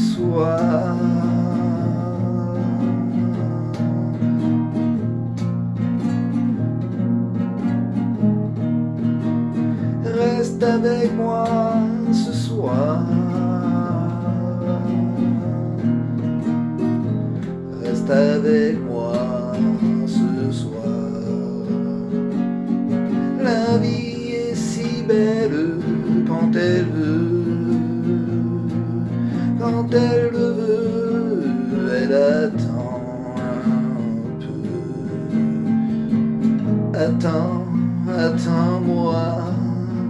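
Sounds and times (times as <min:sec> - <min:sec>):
man singing: 0:00.0 - 0:05.6, 0:09.5 - 0:40.0
acoustic guitar strumming: 0:00.0 - 0:40.0.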